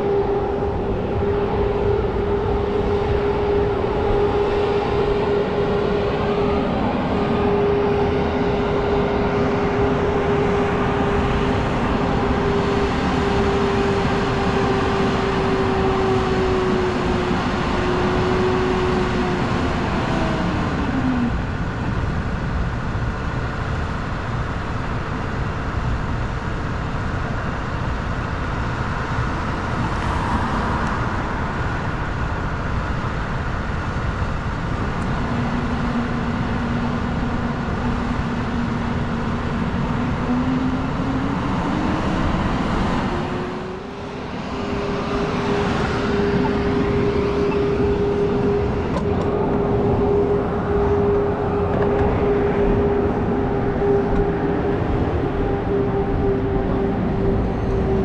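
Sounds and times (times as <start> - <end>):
street traffic engine drone: 0.0 - 58.0.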